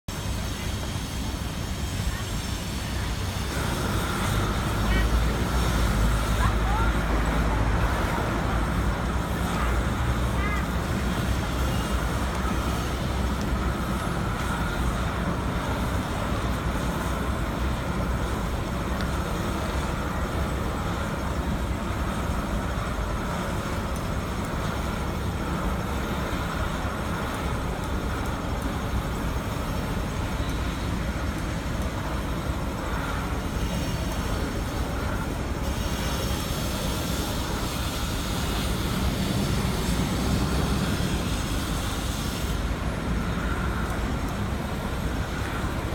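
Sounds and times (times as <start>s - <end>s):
street traffic rumble: 0.1s - 45.9s.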